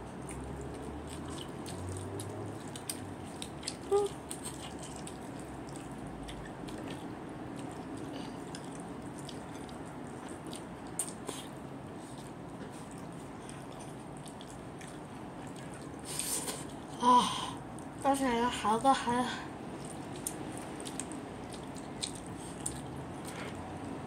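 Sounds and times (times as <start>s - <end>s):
wet chewing with lip smacks: 0.0s - 17.0s, 19.6s - 24.0s.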